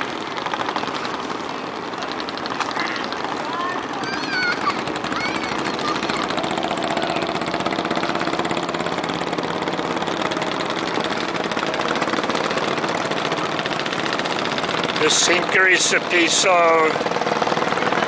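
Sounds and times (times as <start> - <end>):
small boat engine chugging: 0.0 - 18.0.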